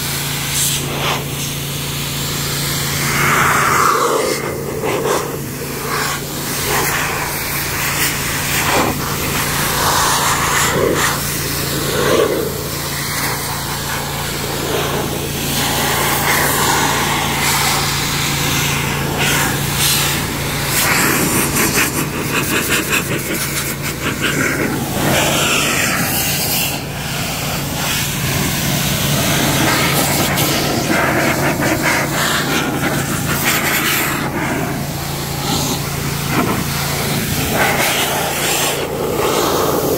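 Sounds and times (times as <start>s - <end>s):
blower motor hum: 0.0s - 39.9s
blower rushing air: 0.0s - 39.9s.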